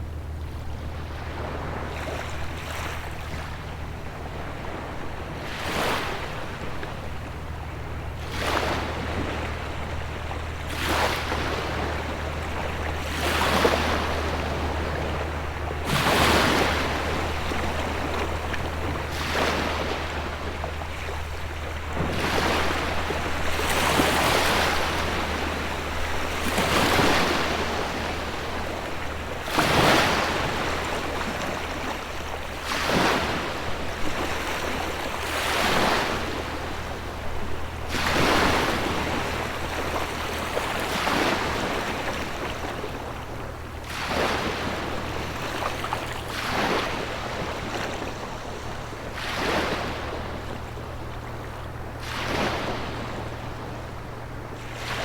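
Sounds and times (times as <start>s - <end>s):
steady low hum: 0.0s - 55.0s
ocean waves washing up shore: 1.0s - 55.0s.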